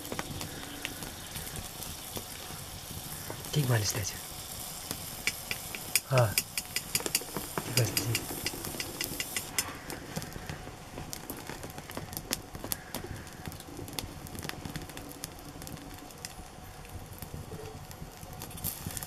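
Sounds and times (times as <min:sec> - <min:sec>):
meat crackling and spattering: 0:00.0 - 0:19.0.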